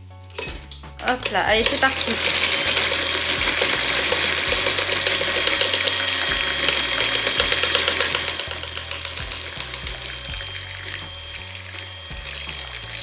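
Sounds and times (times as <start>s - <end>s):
electric hand mixer whirring: 1.0s - 13.0s.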